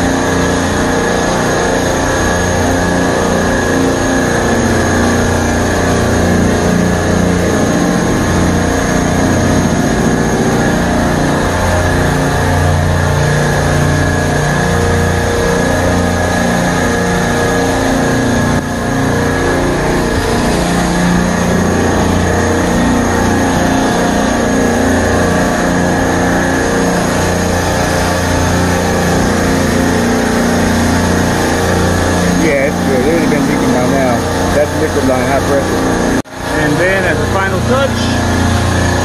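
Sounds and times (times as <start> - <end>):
refrigeration compressors humming: 0.0 - 39.0.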